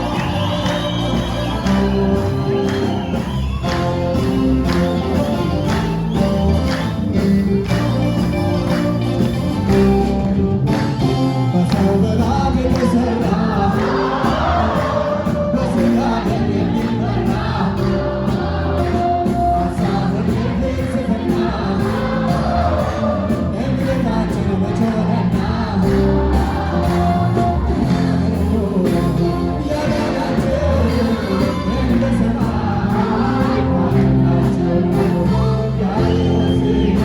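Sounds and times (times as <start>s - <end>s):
backing choir: 0.0s - 37.0s
gospel singing: 0.0s - 37.0s
steady beat: 0.0s - 37.0s.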